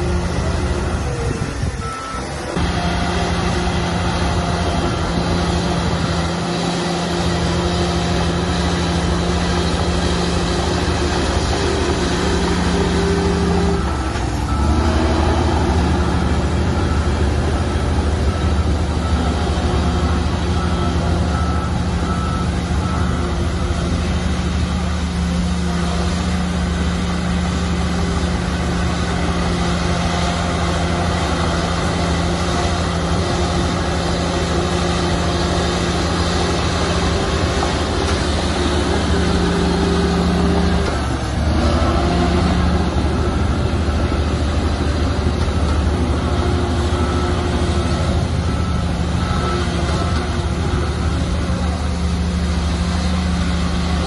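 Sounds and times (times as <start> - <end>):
bulldozer diesel engine running: 0.0 - 54.0
reversing alarm beeping: 0.0 - 54.0.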